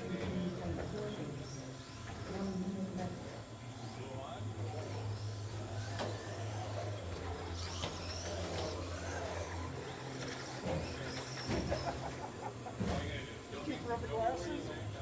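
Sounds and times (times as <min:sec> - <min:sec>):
rc truck motors whining: 0:00.0 - 0:15.0
steady low hum: 0:00.0 - 0:15.0.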